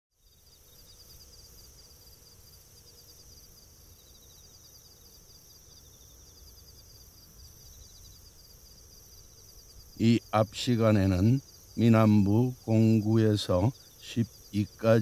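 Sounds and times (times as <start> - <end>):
insects chirping: 0.2 - 15.0
steady high hiss: 0.2 - 15.0.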